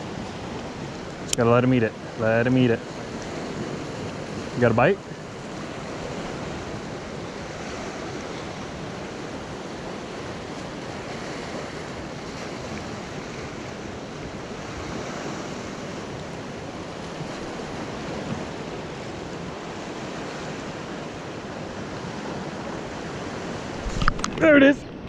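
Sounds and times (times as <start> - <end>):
ocean waves washing: 0.0 - 25.0
wind on microphone: 0.0 - 25.0.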